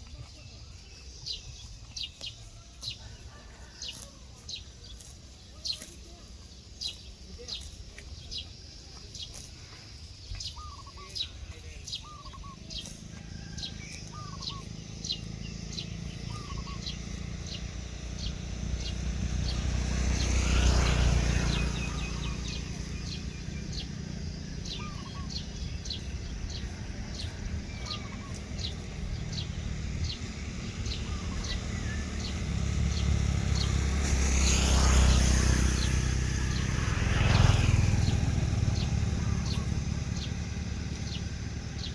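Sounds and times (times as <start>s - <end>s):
bird calls: 0.0s - 41.9s
motor vehicles passing: 0.0s - 41.9s.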